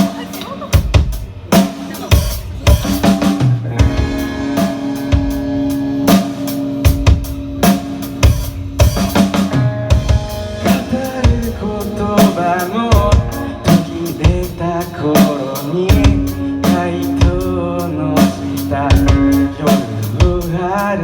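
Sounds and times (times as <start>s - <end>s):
bass: 0.0s - 21.0s
drum kit: 0.0s - 21.0s
guitar: 0.0s - 21.0s.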